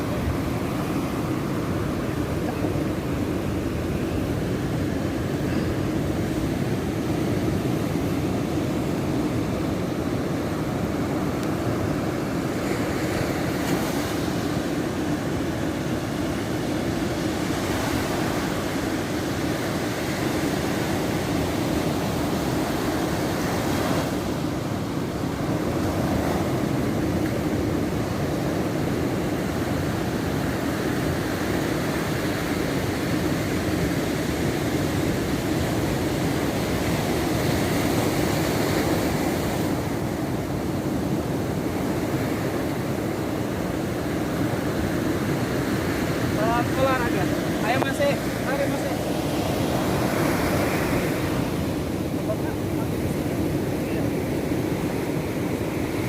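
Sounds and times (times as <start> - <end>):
surf breaking on shore: 0.0 - 56.0.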